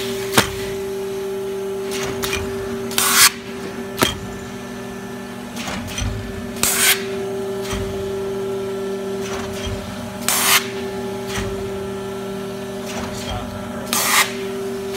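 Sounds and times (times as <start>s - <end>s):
machine humming with clacks: 0.0s - 14.9s.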